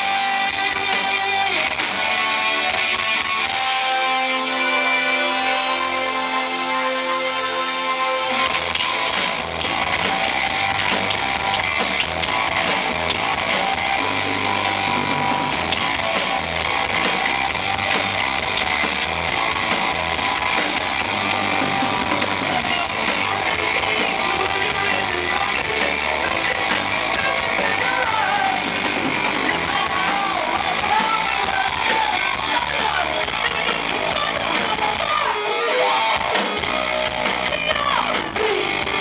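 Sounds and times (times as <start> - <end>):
bass guitar: 0.0 - 39.0
drums: 0.0 - 39.0
electric guitar: 0.0 - 39.0.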